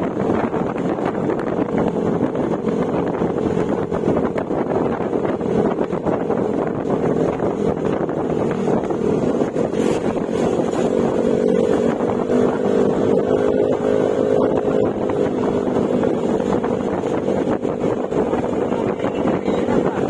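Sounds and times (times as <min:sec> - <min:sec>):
scooter engine cruising: 0:00.0 - 0:20.0
wind rushing over microphone: 0:00.0 - 0:20.0.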